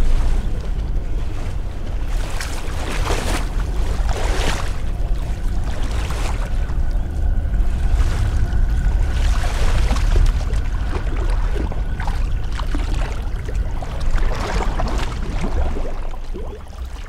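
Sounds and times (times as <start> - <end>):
deep steady rumble: 0.0 - 17.0
water sloshing and splashing: 0.0 - 17.0.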